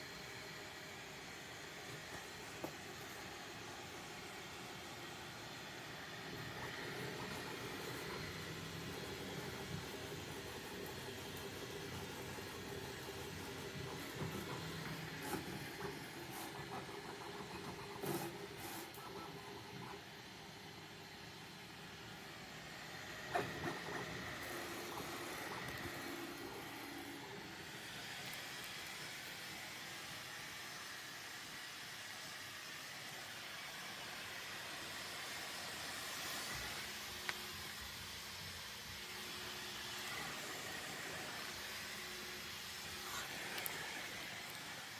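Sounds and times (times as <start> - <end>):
printer fan hiss: 0.0 - 44.9.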